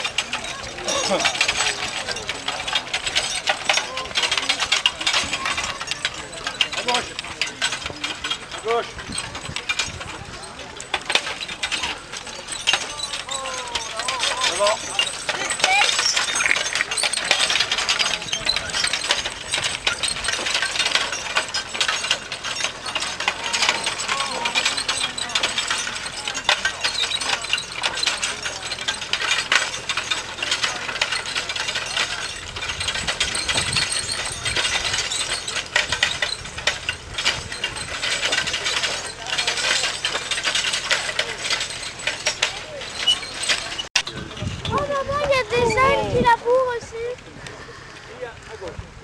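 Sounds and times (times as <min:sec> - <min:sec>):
metal clinking and rattling: 0:00.0 - 0:47.5.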